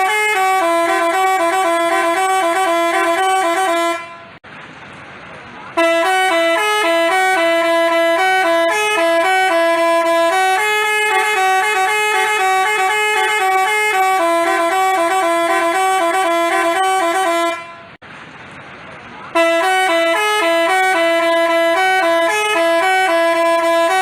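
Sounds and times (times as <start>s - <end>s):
multi-tone horn playing a melody: 0.0s - 4.4s, 5.8s - 18.0s, 19.4s - 24.0s.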